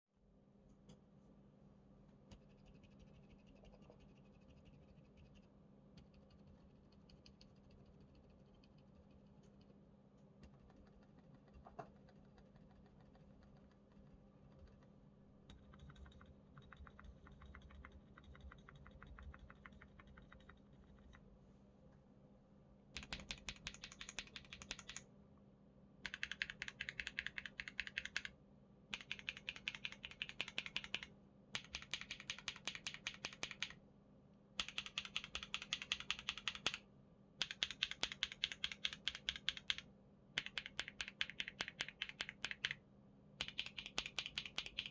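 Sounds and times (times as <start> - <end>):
fast keyboard typing: 2.3 - 9.7, 10.4 - 14.9, 15.5 - 21.2, 23.0 - 25.0, 26.0 - 33.8, 34.6 - 36.8, 37.4 - 42.8, 43.4 - 44.9.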